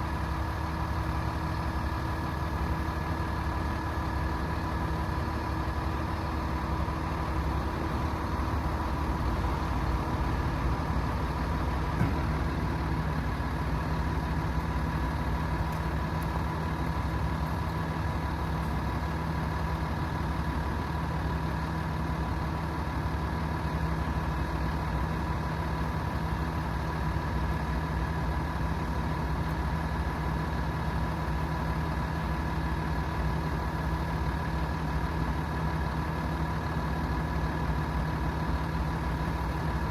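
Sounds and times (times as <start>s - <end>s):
constant whine: 0.0s - 39.9s
diesel truck engine idling: 0.0s - 39.9s.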